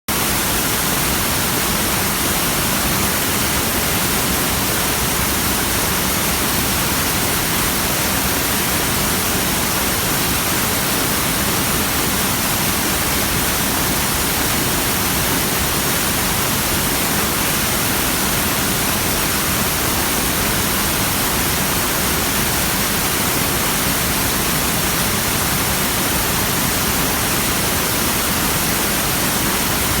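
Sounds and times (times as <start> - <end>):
waterfall rushing: 0.1 - 30.0.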